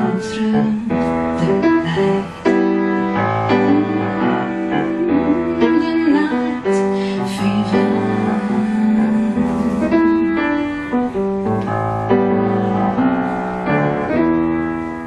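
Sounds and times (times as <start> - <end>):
grand piano chords: 0.0 - 15.0.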